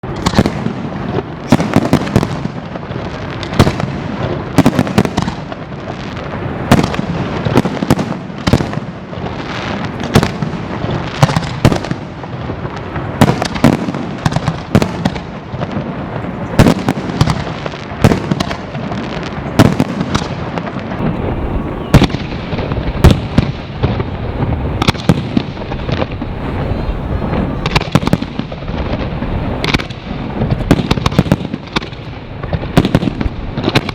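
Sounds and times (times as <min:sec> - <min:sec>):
firework shell bursts and crackling: 0:00.0 - 0:33.9.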